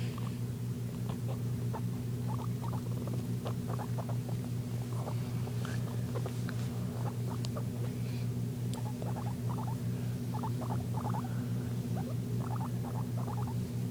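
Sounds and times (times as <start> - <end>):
guinea pig clicking: 0.2 - 7.9, 8.7 - 11.3, 12.0 - 13.6.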